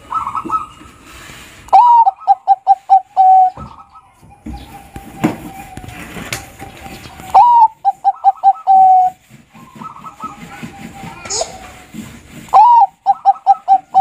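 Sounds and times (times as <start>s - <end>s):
dove cooing: 1.7s - 11.8s, 12.5s - 14.0s.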